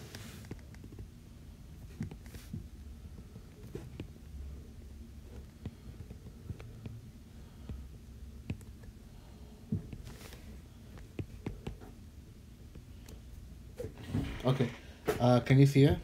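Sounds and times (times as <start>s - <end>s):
low uneven hum: 0.0s - 16.0s.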